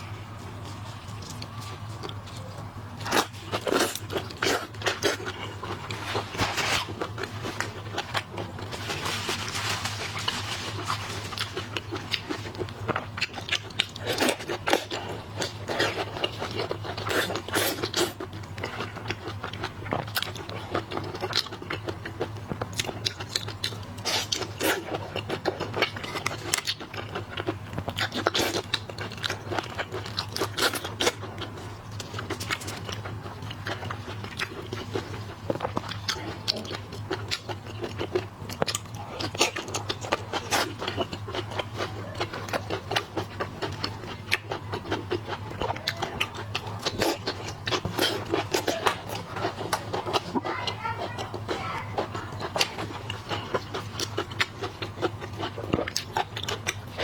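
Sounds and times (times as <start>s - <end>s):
steady low hum: 0.0s - 57.0s
wet chewing: 0.0s - 57.0s.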